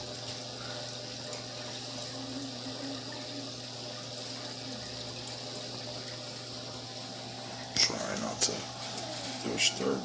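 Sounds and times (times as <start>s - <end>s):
aquarium water trickling: 0.0s - 10.0s
low filter hum: 0.0s - 10.0s.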